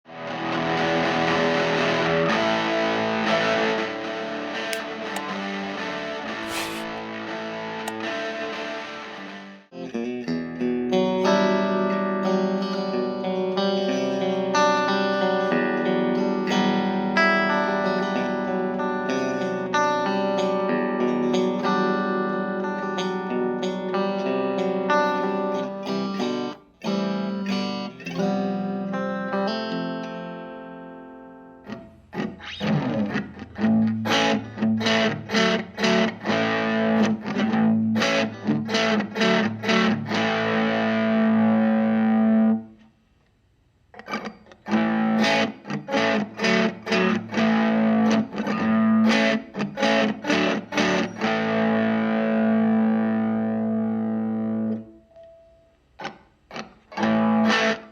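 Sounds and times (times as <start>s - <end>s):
electric guitar chords strummed: 7.6s - 42.7s, 44.1s - 57.9s.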